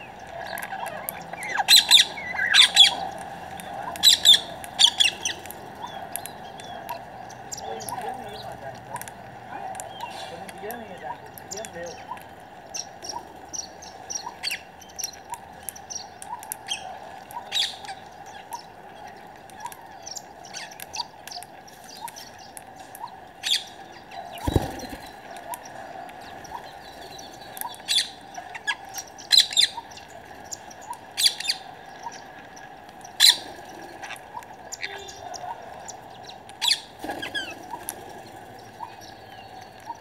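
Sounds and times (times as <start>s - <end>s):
parakeets calling: 0.0s - 40.0s.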